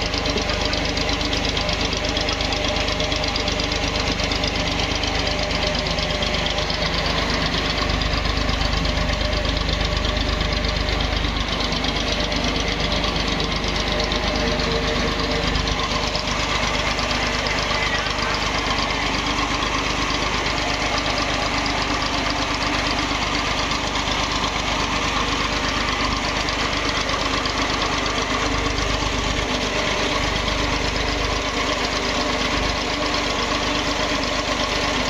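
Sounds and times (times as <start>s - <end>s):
belts and pulleys turning: 0.0s - 35.0s
stationary engine running: 0.0s - 35.0s.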